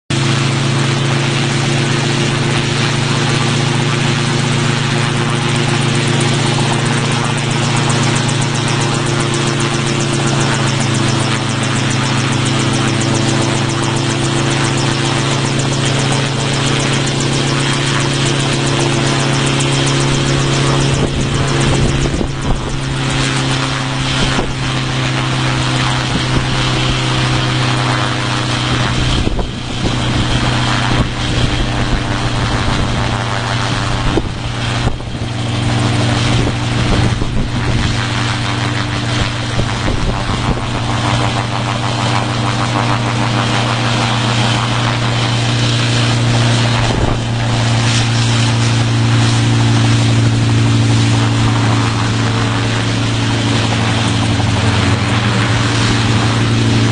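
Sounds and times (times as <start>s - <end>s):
helicopter engine and rotor: 0.1s - 56.9s.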